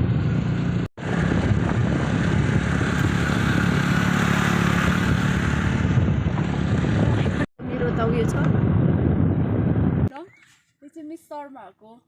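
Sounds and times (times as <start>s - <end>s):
vehicle engine humming: 0.0s - 10.1s.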